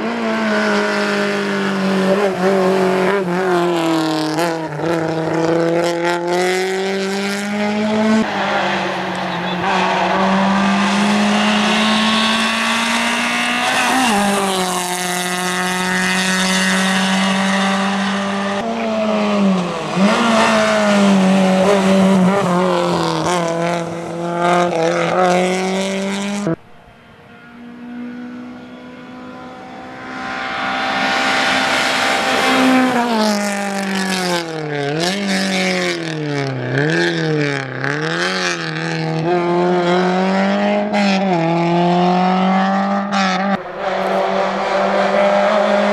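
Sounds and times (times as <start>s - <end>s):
rally car engine at high revs: 0.0s - 26.6s, 27.5s - 45.9s.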